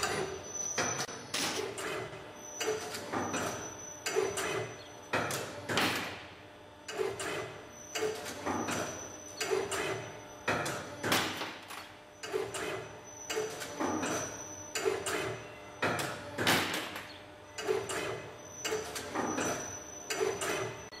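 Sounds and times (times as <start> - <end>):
sharp machine clacks: 0.0 - 20.9.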